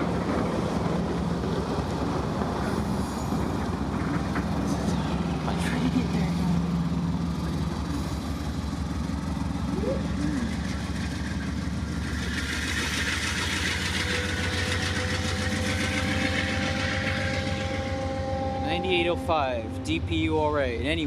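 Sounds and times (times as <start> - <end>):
train wheels rolling on rails: 0.0 - 9.7, 10.4 - 19.0
diesel engine hum: 0.0 - 21.0.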